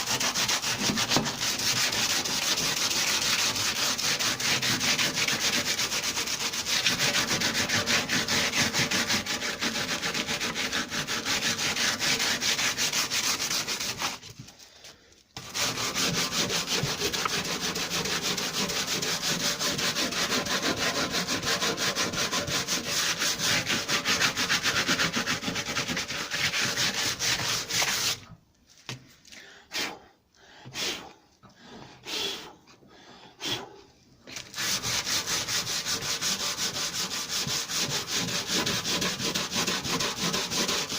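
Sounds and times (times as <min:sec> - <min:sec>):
sandpaper sanding metal filler: 0:00.0 - 0:14.2, 0:15.4 - 0:28.2, 0:34.5 - 0:40.9.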